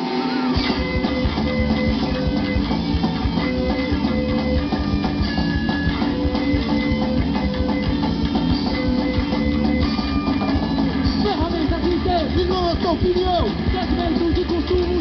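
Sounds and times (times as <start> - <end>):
punk band playing live: 0.0 - 15.0.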